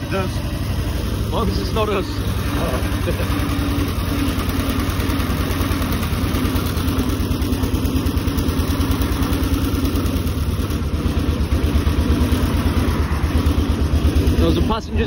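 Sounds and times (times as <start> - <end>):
car engine running: 0.0 - 15.0
road and air noise: 0.0 - 15.0.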